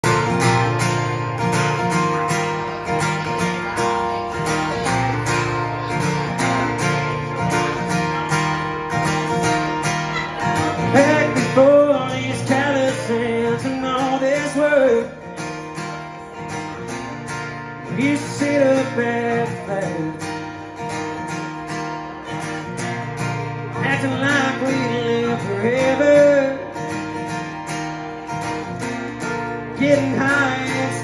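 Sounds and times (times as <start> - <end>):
acoustic guitar strumming: 0.0 - 31.0
man singing: 1.5 - 21.4, 22.2 - 27.4, 28.3 - 31.0.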